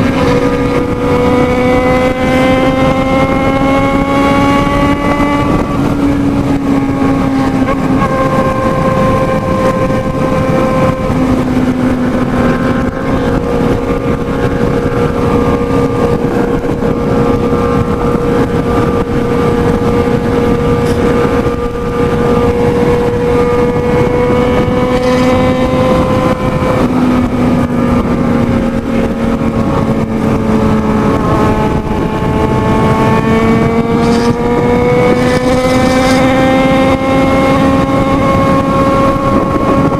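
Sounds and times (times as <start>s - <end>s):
motorcycle engine at high speed: 0.0s - 39.9s.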